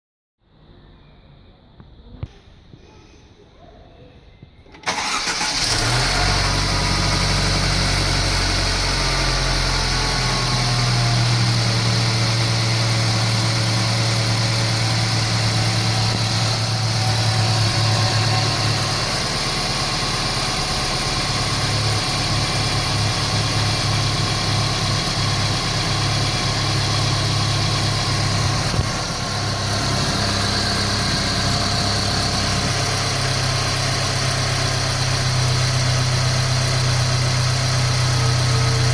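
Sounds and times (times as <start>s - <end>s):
car engine starting and idling: 4.7s - 38.9s.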